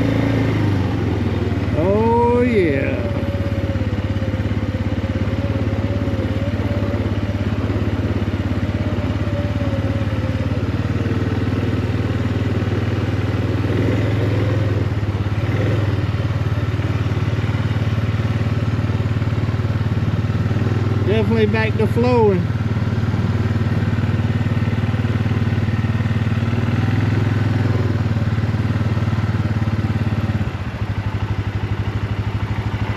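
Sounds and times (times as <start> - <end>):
vehicle engine drone: 0.0 - 32.9.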